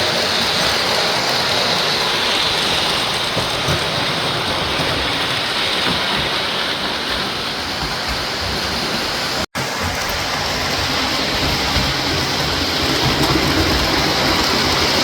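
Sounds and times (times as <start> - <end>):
model trains rumbling on track: 0.0 - 15.0.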